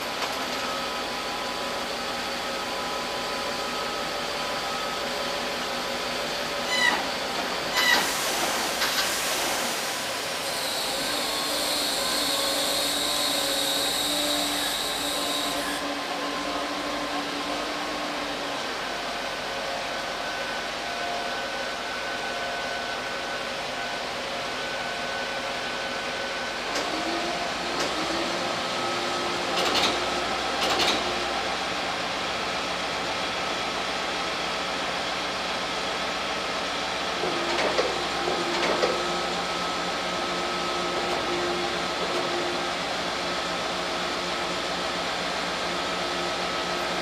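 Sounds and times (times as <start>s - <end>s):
crane engine droning with whine: 0.0s - 8.0s, 9.8s - 47.0s.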